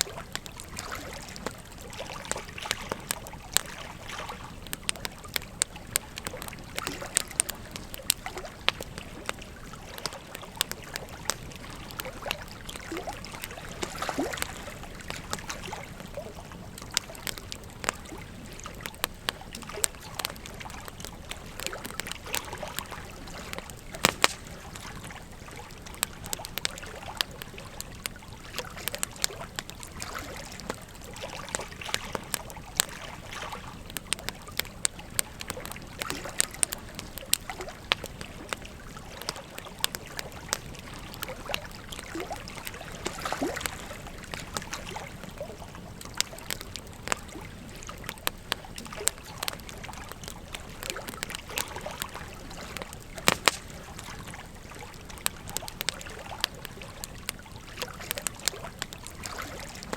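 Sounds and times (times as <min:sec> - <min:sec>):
flowing river: 0:00.0 - 0:59.9
wood fire crackling and popping: 0:00.0 - 0:59.9.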